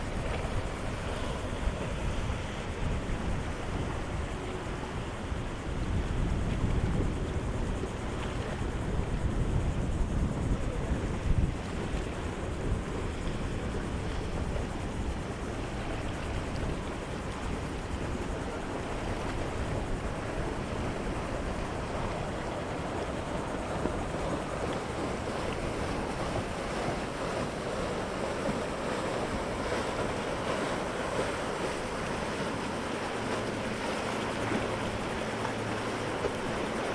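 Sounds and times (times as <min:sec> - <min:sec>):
waves rushing: 0:00.0 - 0:36.9
wind across microphone: 0:00.0 - 0:36.9.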